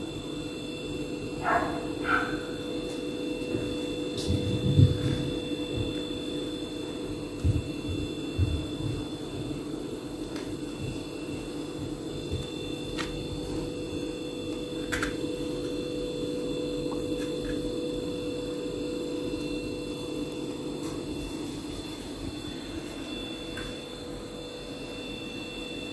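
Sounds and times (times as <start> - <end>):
steady mechanical hum: 0.0 - 25.9.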